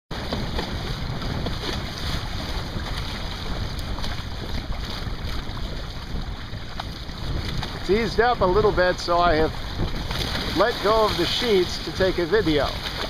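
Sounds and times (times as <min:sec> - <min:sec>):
water washing against hull: 0:00.1 - 0:13.0
wind buffeting microphone: 0:00.1 - 0:13.0.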